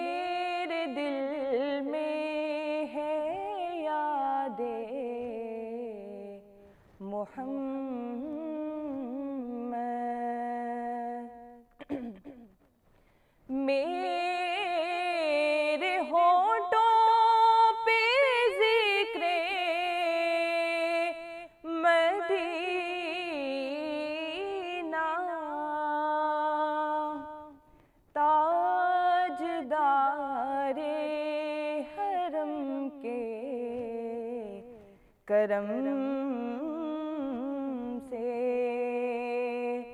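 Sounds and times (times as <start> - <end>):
woman singing devotional song: 0.0 - 39.9.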